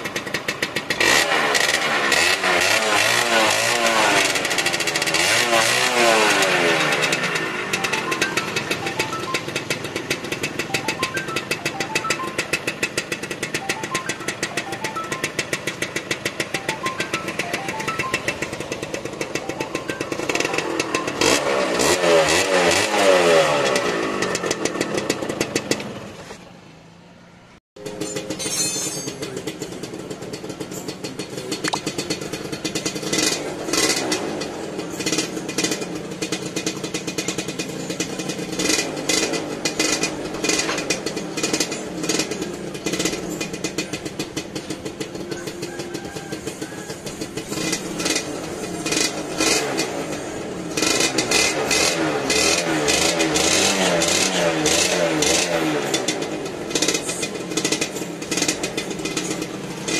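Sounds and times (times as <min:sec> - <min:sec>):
two-stroke motorcycle engine revving: 0:00.0 - 0:26.3, 0:27.9 - 0:59.9.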